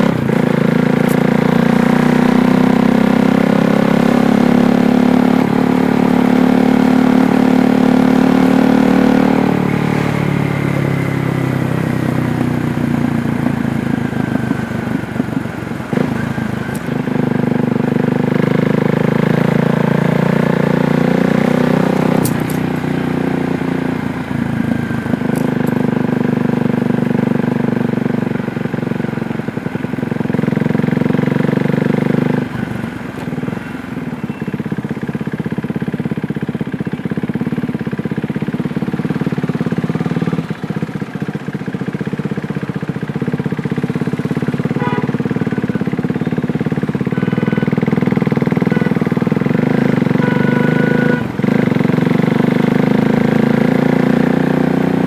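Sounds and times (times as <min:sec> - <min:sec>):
motorcycle engine under throttle: 0:00.0 - 0:55.0.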